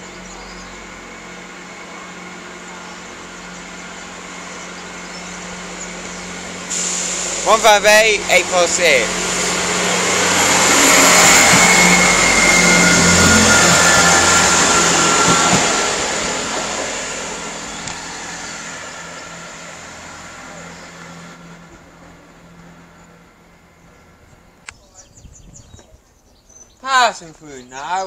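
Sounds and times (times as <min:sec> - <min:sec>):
train wheels rushing on rail: 0:00.0 - 0:24.5
diesel train engine: 0:00.0 - 0:28.0.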